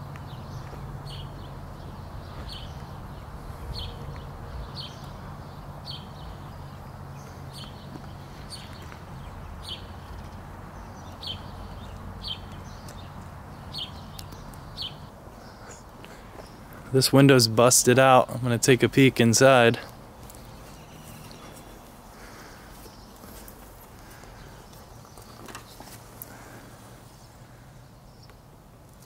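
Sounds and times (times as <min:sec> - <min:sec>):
bird chirping: 0:00.0 - 0:28.4.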